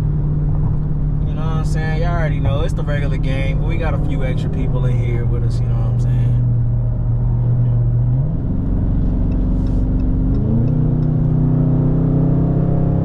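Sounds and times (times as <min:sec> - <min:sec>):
car engine drone while driving: 0:00.0 - 0:13.0.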